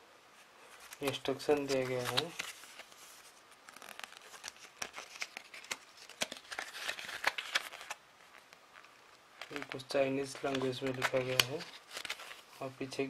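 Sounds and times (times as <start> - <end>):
paper rustling: 0.6 - 12.7.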